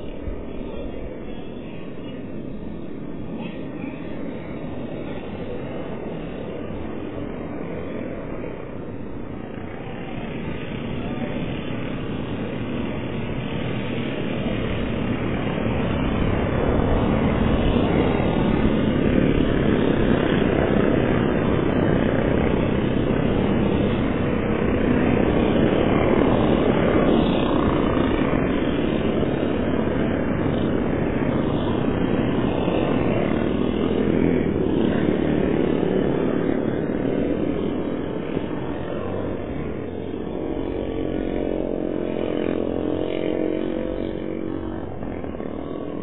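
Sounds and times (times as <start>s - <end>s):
off-road truck engines droning: 0.0s - 46.0s.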